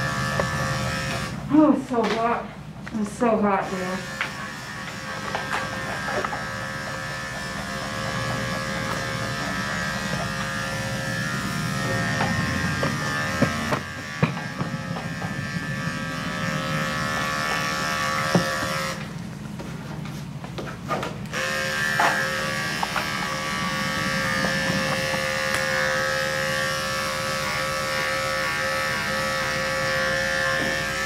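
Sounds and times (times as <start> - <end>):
electric clippers buzzing: 0.0 - 1.5, 3.2 - 19.5, 21.2 - 31.0.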